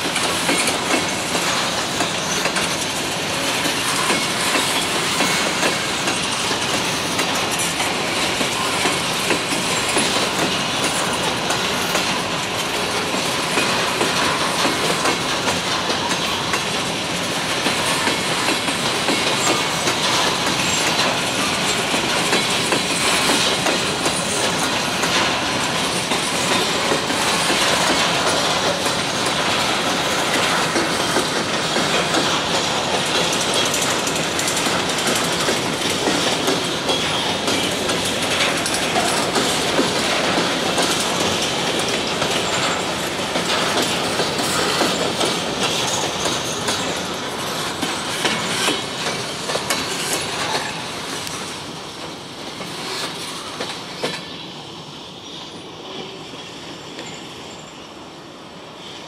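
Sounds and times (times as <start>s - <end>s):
train wheels clacking over rail joints: 0.0s - 57.2s
train rumble and rattle: 0.0s - 59.0s.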